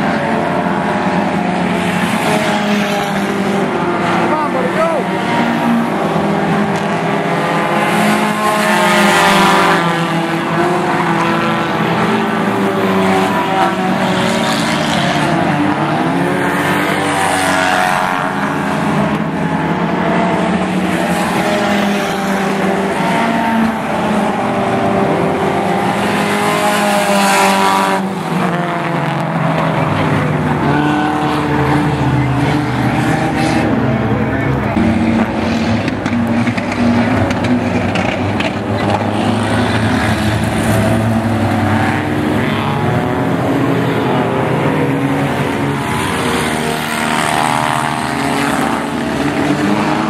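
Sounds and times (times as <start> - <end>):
race car engines: 0.0 - 50.0.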